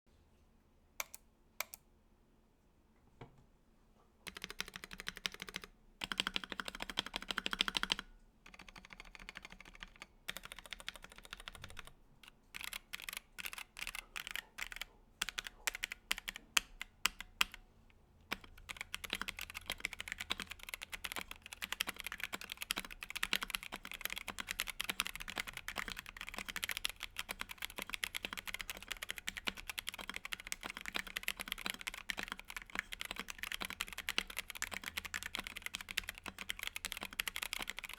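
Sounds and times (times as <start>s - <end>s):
typing on mechanical keyboard: 4.3s - 17.6s, 18.3s - 37.9s.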